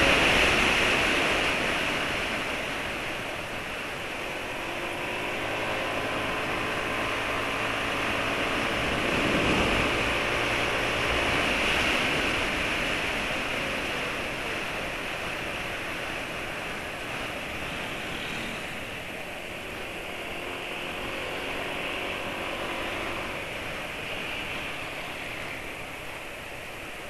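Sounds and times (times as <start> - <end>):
scooter engine hum: 0.0 - 27.0
wind rushing over microphone: 0.0 - 27.0.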